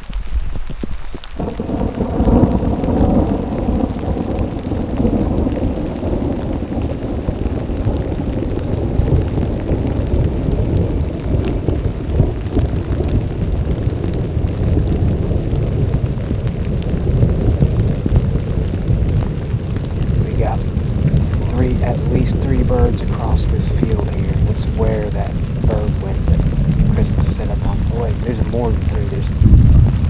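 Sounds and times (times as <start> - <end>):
falling rain: 0.0 - 30.0
thunder rumbling: 0.0 - 30.0.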